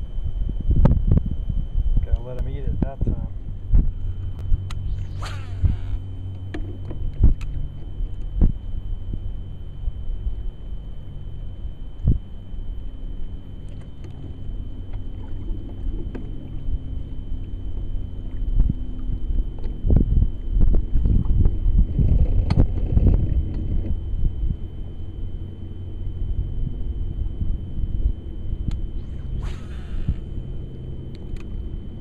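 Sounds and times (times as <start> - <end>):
faint high whine: 0.0 - 32.0
steady low rumble: 0.0 - 32.0.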